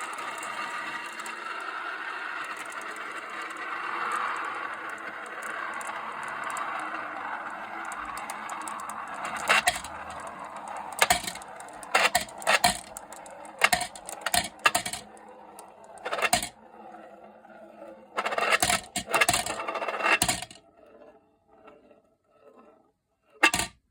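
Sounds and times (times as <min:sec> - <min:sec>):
marbles clacking on track: 0:00.0 - 0:16.6, 0:18.2 - 0:20.6, 0:23.4 - 0:23.8
marbles rolling whirr: 0:00.0 - 0:22.0, 0:23.4 - 0:23.7.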